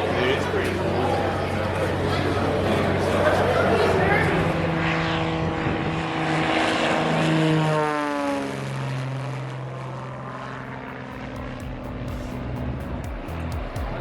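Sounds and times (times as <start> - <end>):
propeller airplane passing by: 0.0 - 14.0.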